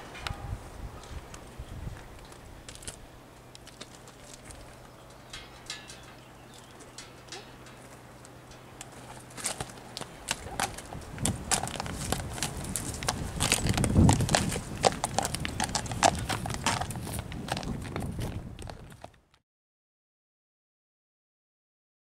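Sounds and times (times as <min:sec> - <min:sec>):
person's footsteps: 0:01.0 - 0:19.2
horse hooves on gravel: 0:01.0 - 0:19.3.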